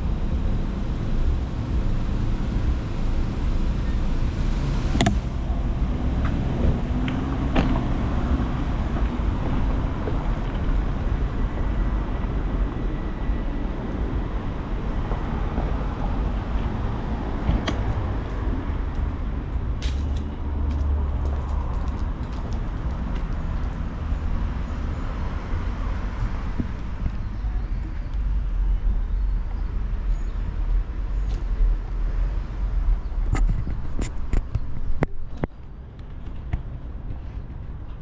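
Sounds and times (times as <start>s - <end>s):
traffic noise: 0.0s - 38.0s
wind rumble: 0.0s - 38.0s.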